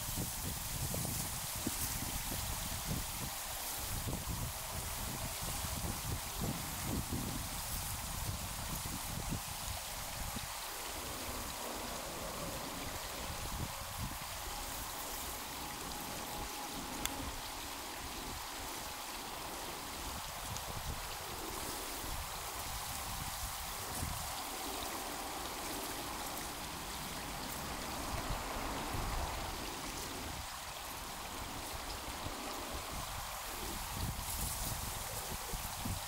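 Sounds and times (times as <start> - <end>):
water rushing through dam: 0.0 - 36.0.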